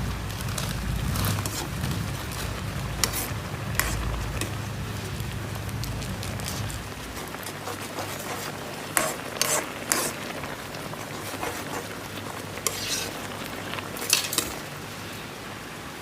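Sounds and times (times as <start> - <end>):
water hissing coming to boil: 0.0 - 16.0
utensil scraping cooking pot: 0.6 - 14.7.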